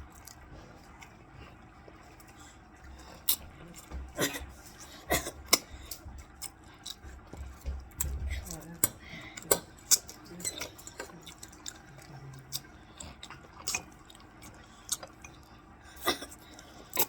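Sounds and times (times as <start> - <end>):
chewing and smacking: 0.0 - 17.0.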